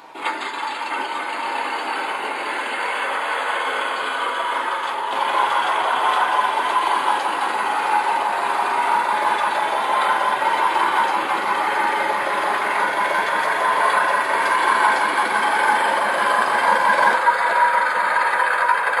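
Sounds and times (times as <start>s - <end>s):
truck engine sound from small speaker: 0.0s - 19.0s.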